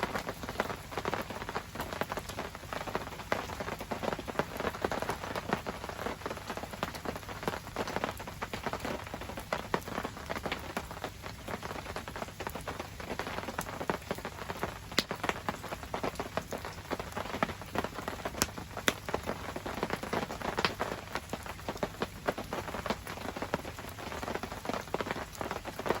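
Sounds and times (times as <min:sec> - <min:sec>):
rain falling on surfaces: 0:00.0 - 0:26.0.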